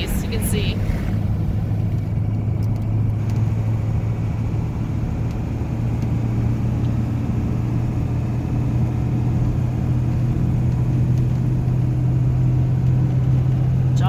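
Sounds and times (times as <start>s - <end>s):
car engine hum: 0.0s - 14.0s
road and tyre noise: 0.0s - 14.0s.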